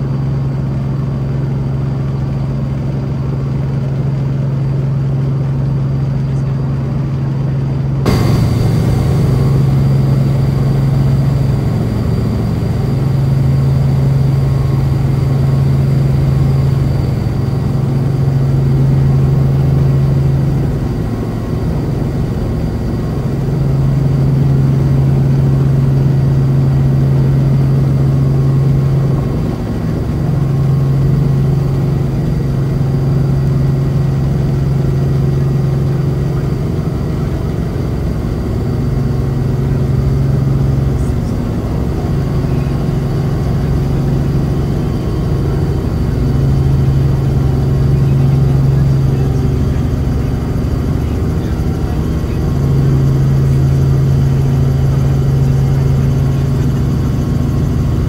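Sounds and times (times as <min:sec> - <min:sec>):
helicopter drone: 0:00.0 - 0:58.0
high whine: 0:07.8 - 0:58.0.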